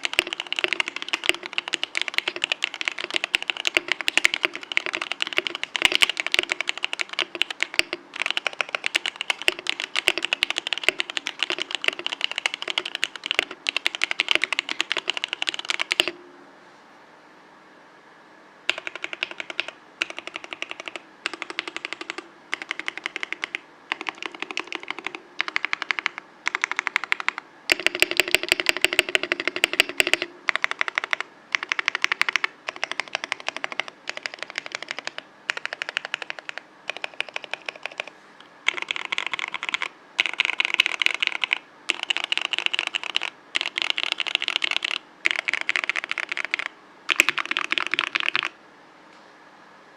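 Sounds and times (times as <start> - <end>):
mechanical keyboard typing: 0.0 - 16.2, 18.7 - 48.6.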